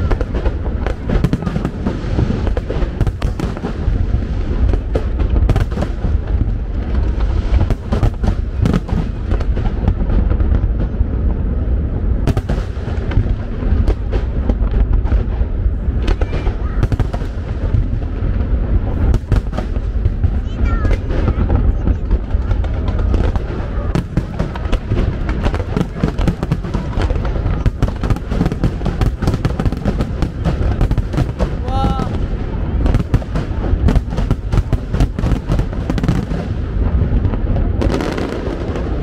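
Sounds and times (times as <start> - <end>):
continuous low rumble: 0.0 - 39.0.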